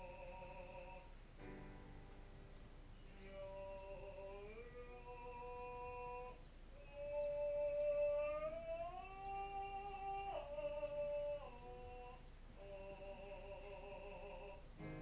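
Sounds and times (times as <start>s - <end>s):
person singing held notes: 2.6s - 15.0s.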